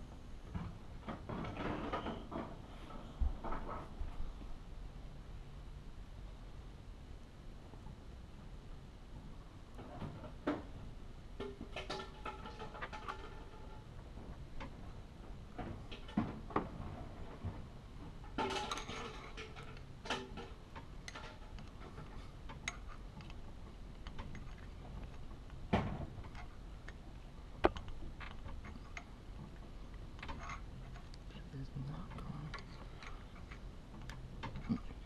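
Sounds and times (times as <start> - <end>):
low steady room hum: 0.0 - 35.0.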